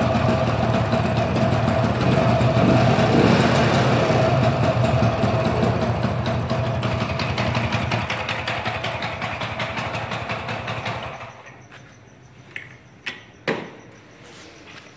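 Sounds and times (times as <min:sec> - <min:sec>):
scooter engine idling: 0:00.0 - 0:12.1.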